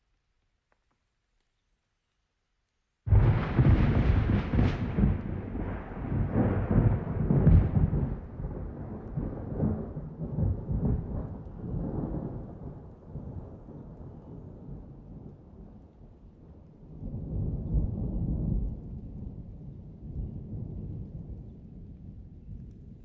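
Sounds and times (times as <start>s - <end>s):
thunder clap and rumble: 3.1s - 15.8s, 16.9s - 23.0s.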